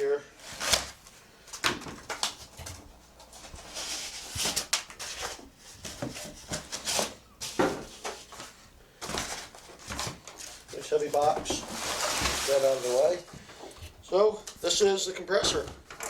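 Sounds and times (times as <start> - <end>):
cardboard rustling and scraping: 0.4 - 14.1.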